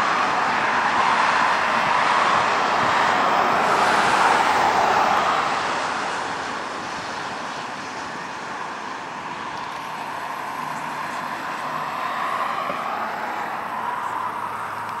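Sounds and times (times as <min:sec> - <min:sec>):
airliner jet engines rushing: 0:00.0 - 0:15.0.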